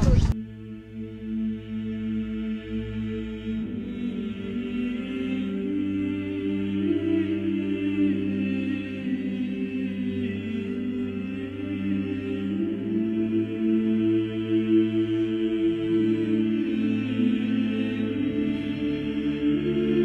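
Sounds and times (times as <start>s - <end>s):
choral chanting: 0.2s - 20.0s.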